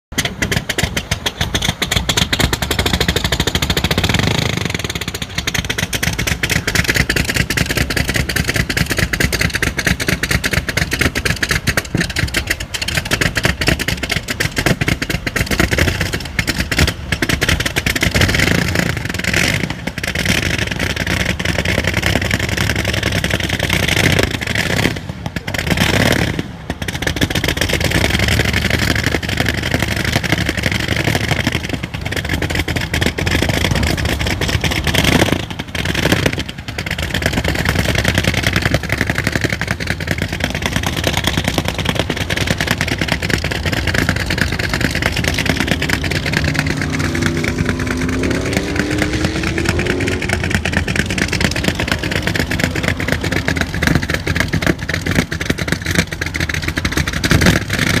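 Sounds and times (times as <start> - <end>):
race car engine running loudly: 0.1 - 58.0.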